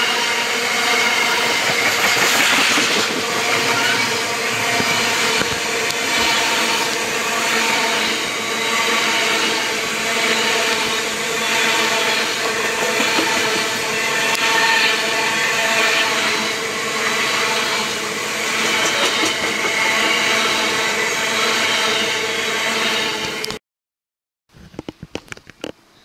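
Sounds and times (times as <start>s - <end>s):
train wheels rumbling on rails: 0.0s - 23.5s.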